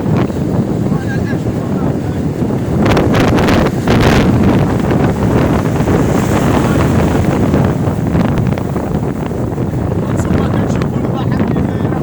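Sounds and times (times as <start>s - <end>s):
sea surf: 0.0s - 12.0s
wind buffeting the microphone: 0.0s - 12.0s.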